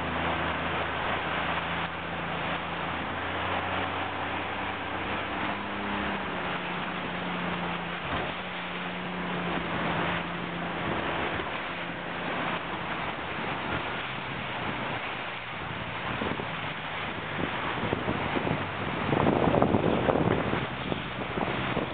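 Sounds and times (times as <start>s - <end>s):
low hum: 0.0s - 21.9s
water washing past boat: 0.0s - 21.9s
wind on microphone: 0.0s - 21.9s.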